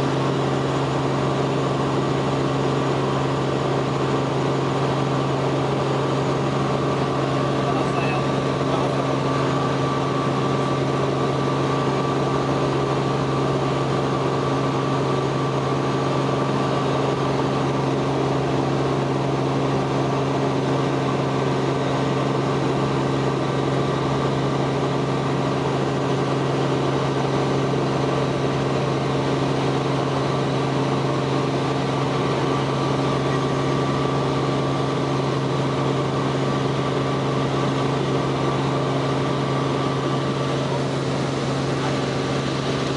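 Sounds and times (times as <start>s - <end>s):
helicopter engine and rotors humming: 0.0s - 42.9s.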